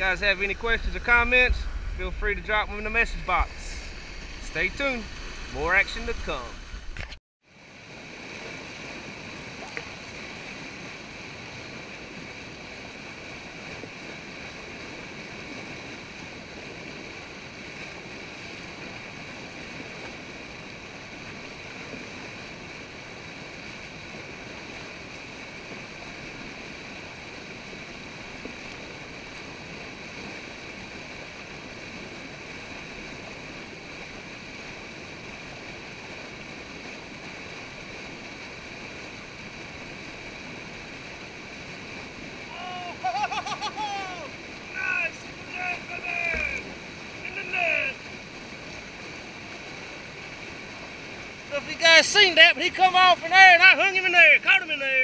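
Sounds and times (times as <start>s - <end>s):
whitewater rushing: 0.0s - 55.0s.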